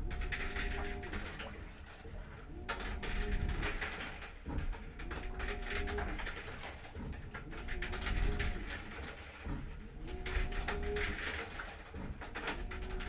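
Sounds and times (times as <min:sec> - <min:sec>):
washing machine churning: 0:00.0 - 0:13.0.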